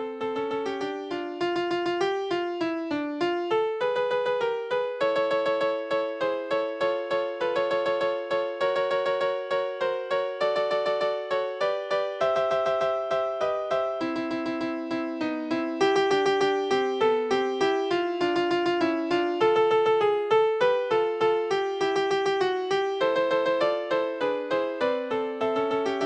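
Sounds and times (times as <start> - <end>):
electronic keyboard melody: 0.0 - 26.0.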